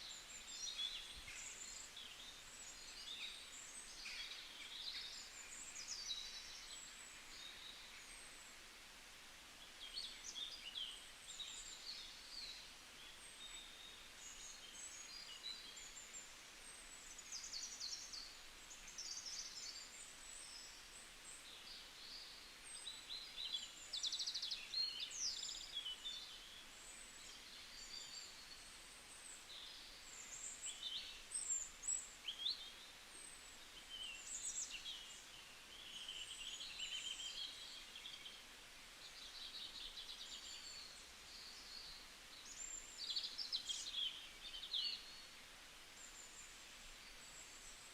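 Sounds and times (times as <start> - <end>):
faint steady hiss: 0.0 - 47.9
songbirds singing: 0.0 - 47.9.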